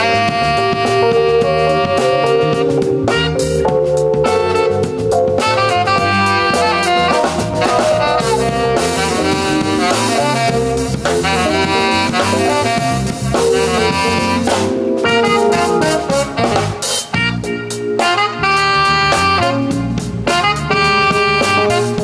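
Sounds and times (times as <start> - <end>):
drum kit: 0.0 - 22.0
electric guitar: 0.0 - 22.0
electric keyboard: 0.0 - 22.0
saxophone: 0.0 - 22.0.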